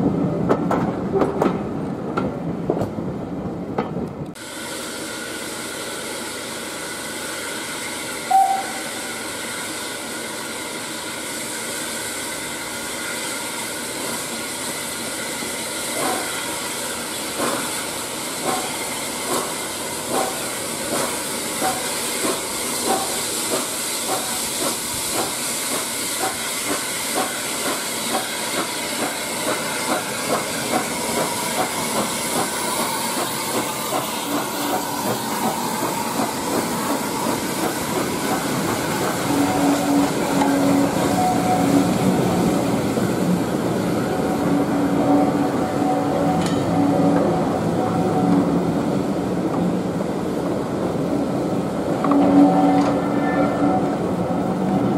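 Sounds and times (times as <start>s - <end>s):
steam hiss: 4.4s - 52.4s.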